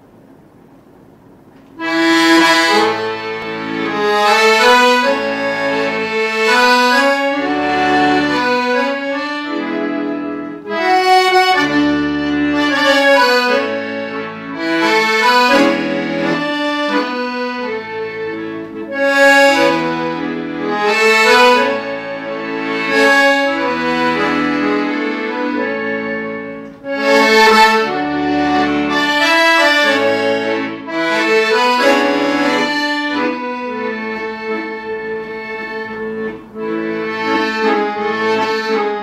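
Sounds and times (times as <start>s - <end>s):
instrumental melody over chords: 1.8s - 39.0s.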